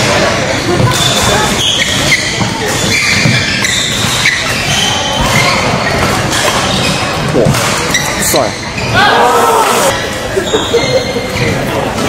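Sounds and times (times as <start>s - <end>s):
shoes squeaking on court: 0.1s - 9.0s, 9.9s - 12.0s.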